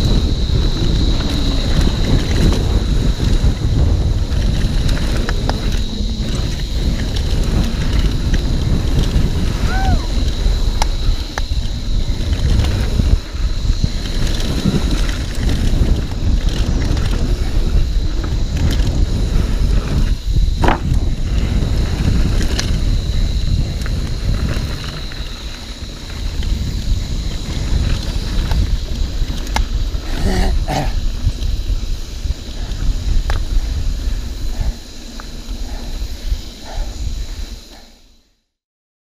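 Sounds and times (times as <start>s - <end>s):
bike rattling over ground: 0.0s - 38.1s
bike tyre noise: 0.0s - 38.4s
wind rumble on microphone: 0.0s - 38.4s.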